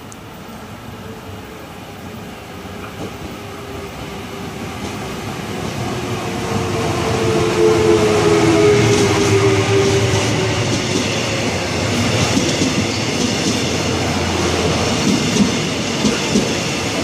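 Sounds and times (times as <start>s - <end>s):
train rumble: 0.3s - 17.0s.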